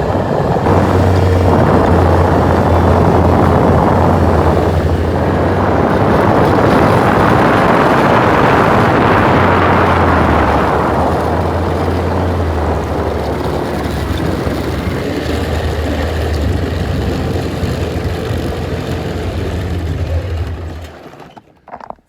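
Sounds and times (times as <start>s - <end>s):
snowmobile engine droning: 0.0s - 21.4s.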